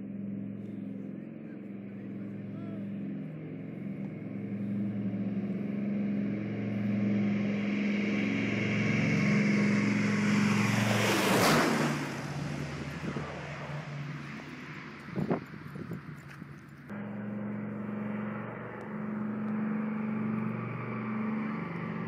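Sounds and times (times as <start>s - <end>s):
aircraft passing overhead: 0.0s - 22.0s
propeller airliner engines droning: 0.0s - 22.0s.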